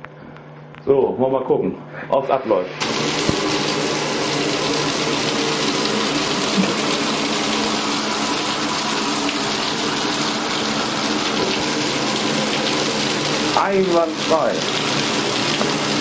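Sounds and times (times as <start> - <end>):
shower water spraying: 2.7 - 16.0.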